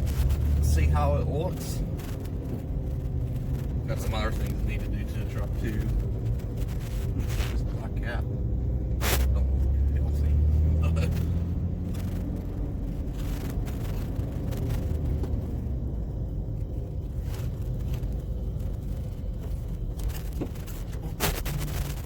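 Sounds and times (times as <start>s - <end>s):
vehicle engine low rumble: 0.0s - 22.0s.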